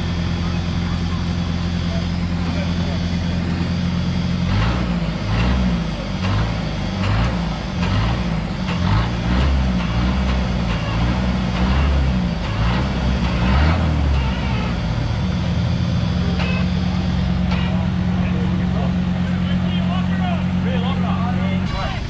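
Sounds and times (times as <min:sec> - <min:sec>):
truck engine revving under load: 0:00.0 - 0:22.0.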